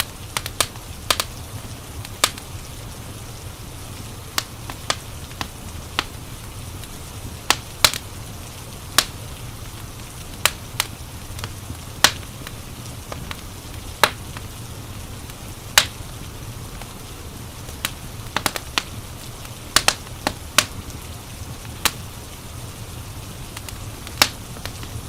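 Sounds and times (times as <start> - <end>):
low rumble and soft hiss: 0.0 - 25.0
wood fire crackling and popping: 0.0 - 25.0.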